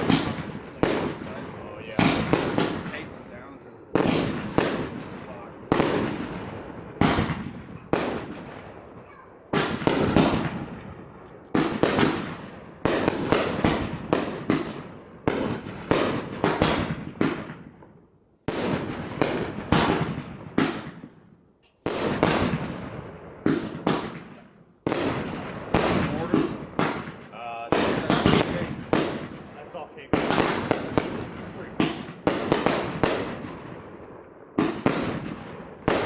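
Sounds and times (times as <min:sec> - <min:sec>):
fireworks bangs echoing: 0:00.0 - 0:36.0.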